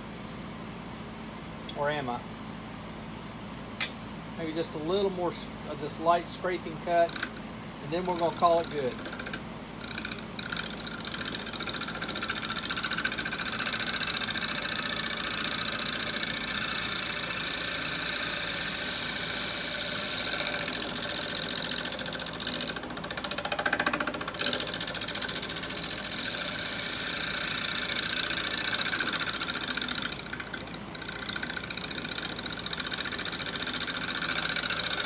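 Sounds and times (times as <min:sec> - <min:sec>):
wood lathe spinning: 0:05.8 - 0:35.0
turning tool scraping wood: 0:06.3 - 0:35.0.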